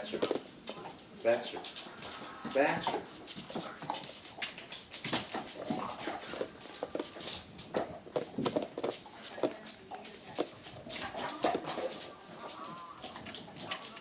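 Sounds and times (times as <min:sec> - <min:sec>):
dog paws clicking and tapping: 0:00.0 - 0:14.0.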